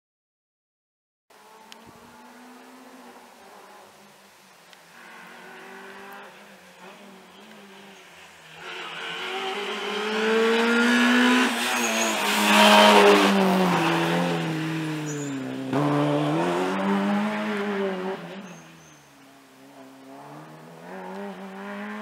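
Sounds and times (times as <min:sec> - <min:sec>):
rally car engine passing at speed: 0:01.3 - 0:04.1, 0:05.0 - 0:22.0.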